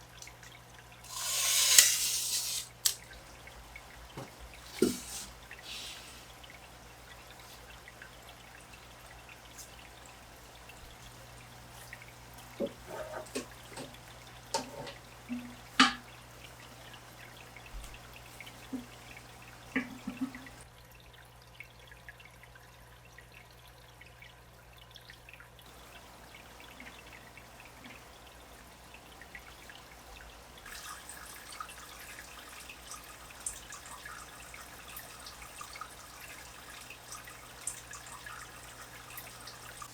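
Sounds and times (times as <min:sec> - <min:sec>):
water dripping and splashing: 0:00.0 - 0:20.7, 0:25.7 - 0:39.9
faint fizzing trickle: 0:00.0 - 0:39.9.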